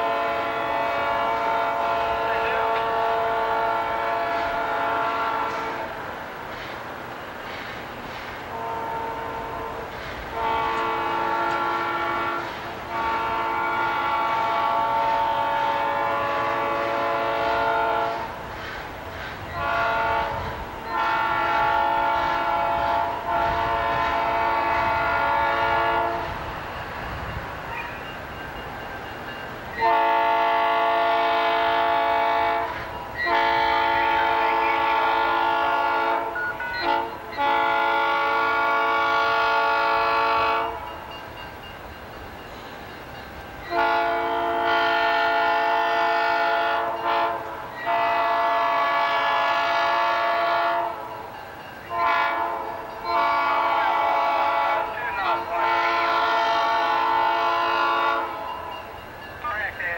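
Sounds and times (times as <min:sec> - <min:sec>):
locomotive air horn blasts: 0:00.0 - 0:06.0, 0:08.5 - 0:18.4, 0:19.6 - 0:26.5, 0:29.8 - 0:41.0, 0:43.6 - 0:51.2, 0:51.9 - 0:58.7
low rumble of train: 0:00.0 - 0:59.9.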